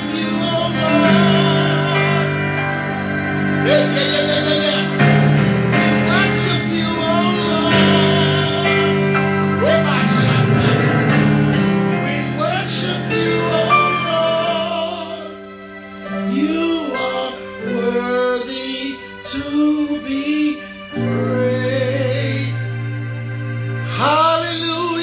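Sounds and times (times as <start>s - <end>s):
long held chords: 0.0s - 25.0s.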